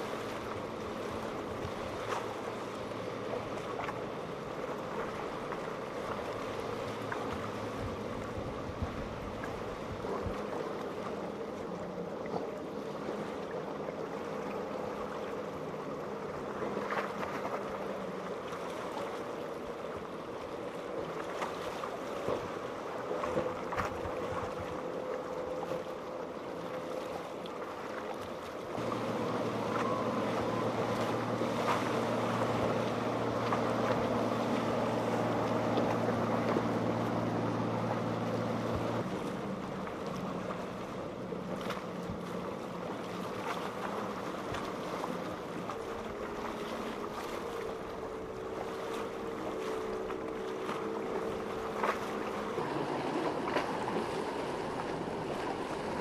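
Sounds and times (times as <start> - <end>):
boat engines running: 0.0 - 56.0
deep engine drone: 0.0 - 56.0
waves: 0.0 - 56.0
wind: 0.0 - 56.0.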